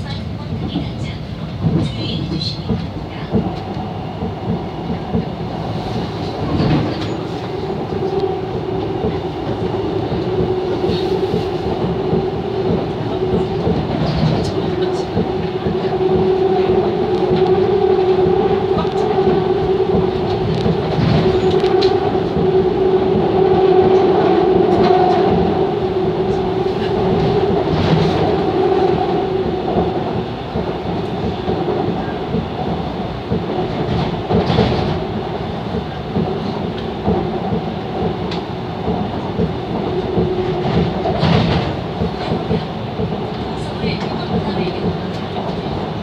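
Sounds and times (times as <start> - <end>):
train running noise: 0.0 - 46.0.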